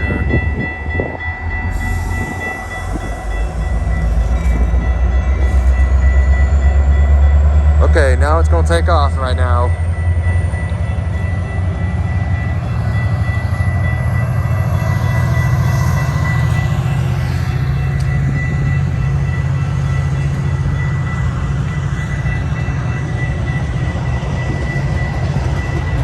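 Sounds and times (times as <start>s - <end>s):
diesel locomotive throttling up: 0.0s - 26.0s
level-crossing bells ringing: 0.0s - 26.0s
rail noise: 0.0s - 26.0s.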